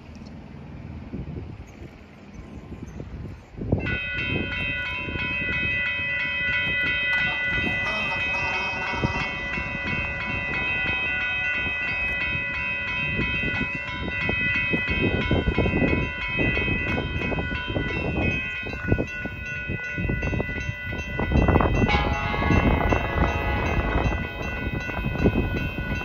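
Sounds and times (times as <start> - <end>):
crossing warning bell ringing: 3.7 - 26.0.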